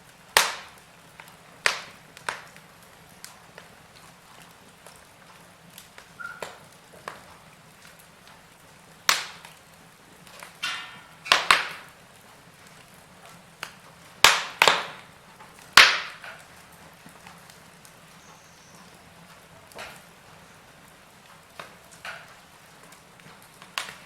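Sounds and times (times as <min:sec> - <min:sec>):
faint steady hiss: 0:00.0 - 0:24.0
wood fire crackling: 0:00.0 - 0:24.0.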